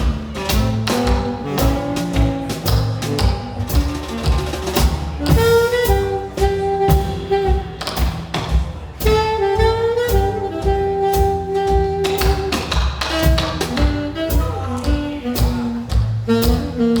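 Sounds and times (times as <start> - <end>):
saxophone playing held phrases: 0.0 - 8.1, 9.0 - 17.0
double bass: 0.0 - 17.0.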